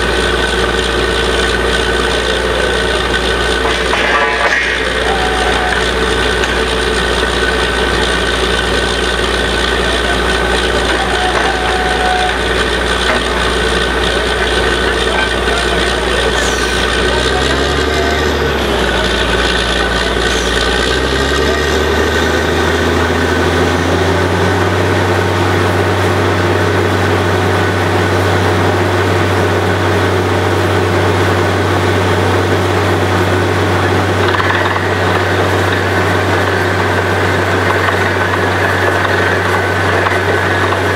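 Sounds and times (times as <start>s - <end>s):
drilling rig engine running: 0.0s - 40.9s.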